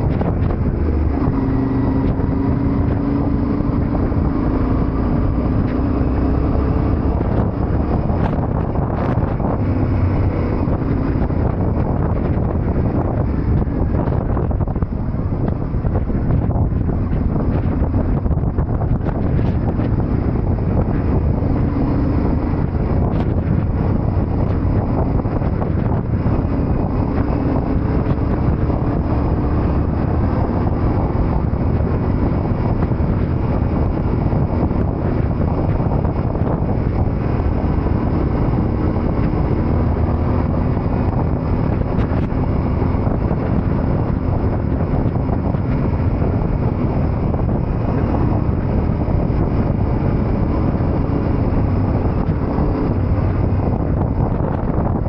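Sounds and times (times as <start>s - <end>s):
motorcycle engine running: 0.0s - 55.0s
wind buffeting on microphone: 0.0s - 55.0s.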